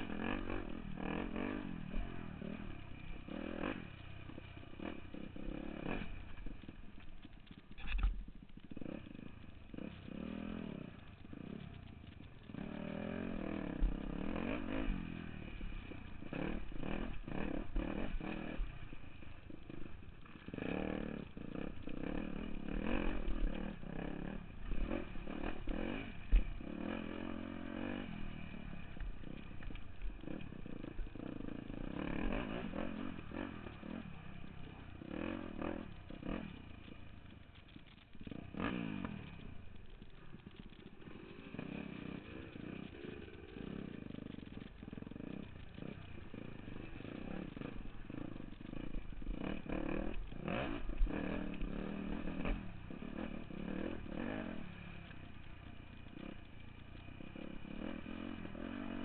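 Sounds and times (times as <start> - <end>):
bike knocking and rattling: 0.0 - 59.0
dirt bike engine revving: 0.0 - 59.0.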